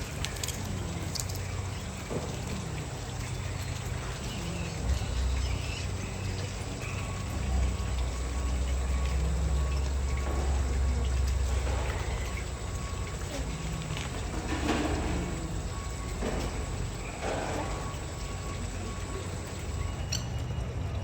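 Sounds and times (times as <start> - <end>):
water trickling and pouring: 0.0 - 21.0.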